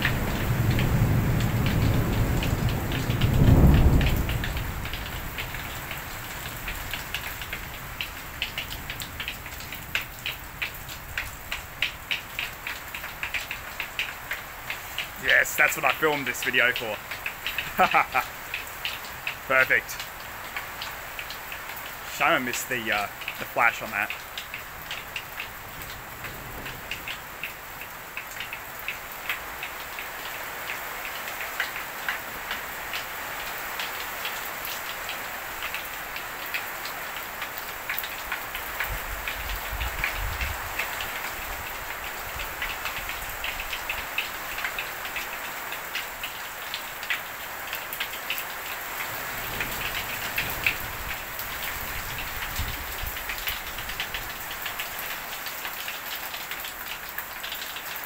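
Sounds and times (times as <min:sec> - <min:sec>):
rain and hail on a roof: 0:00.0 - 0:58.0.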